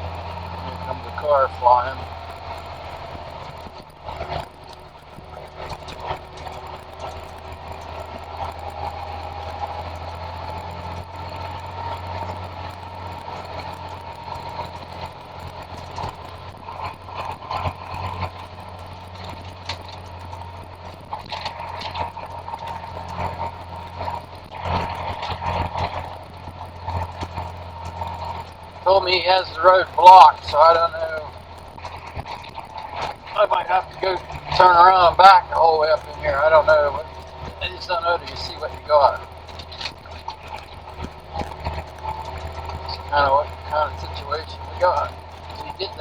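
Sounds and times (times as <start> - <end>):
rattles and clicks: 0.0 - 46.0
truck engine humming: 0.0 - 46.0.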